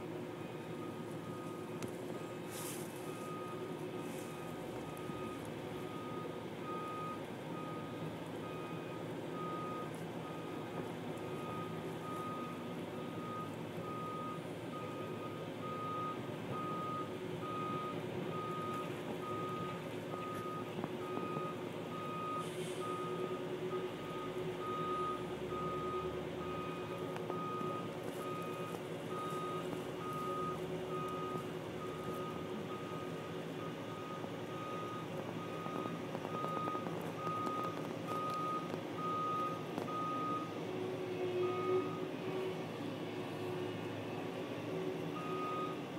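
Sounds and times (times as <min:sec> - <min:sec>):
back-up alarm beeping: 0:03.1 - 0:40.6.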